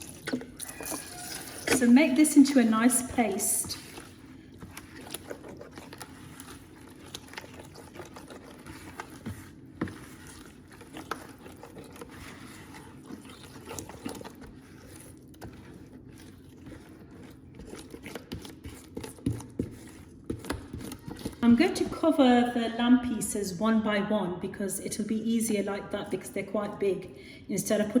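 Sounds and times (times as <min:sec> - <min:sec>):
wet paste stirred in a bowl: 0:00.0 - 0:23.3.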